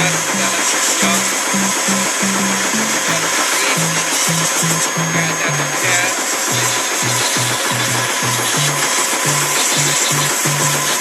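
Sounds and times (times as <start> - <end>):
mechanical din: 0.0 - 11.0
music with pulsing bass: 0.0 - 11.0.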